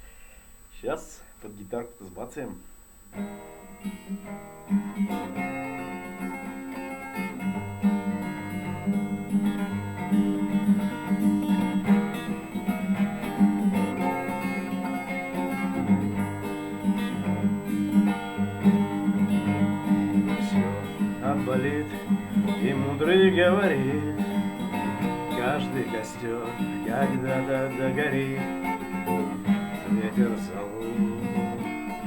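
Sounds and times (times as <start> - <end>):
acoustic guitar strumming chords: 0.8 - 32.0.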